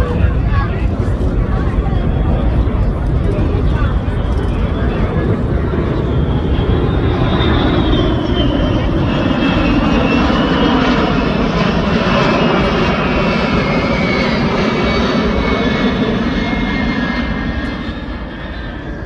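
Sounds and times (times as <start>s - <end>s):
aircraft engine passing: 0.0s - 19.0s
falling engine whine: 0.0s - 19.0s.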